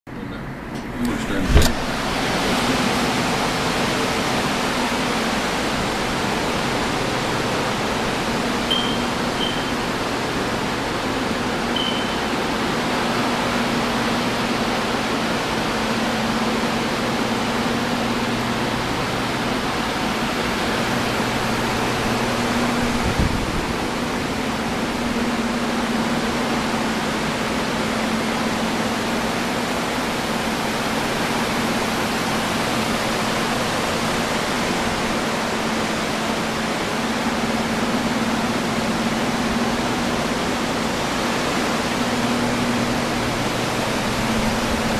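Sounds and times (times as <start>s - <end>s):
drying fans rushing air: 0.1s - 44.9s
low motor hum: 0.1s - 44.9s.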